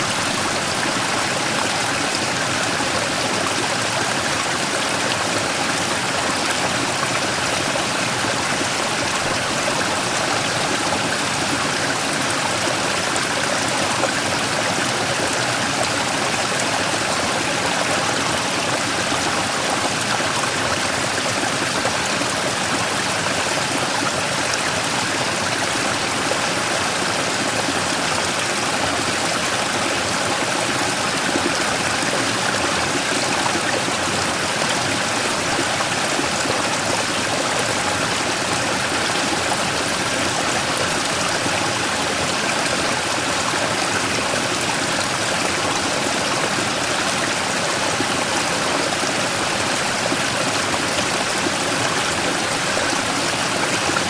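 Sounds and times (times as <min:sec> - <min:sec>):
stream rushing over rock: 0:00.0 - 0:54.0.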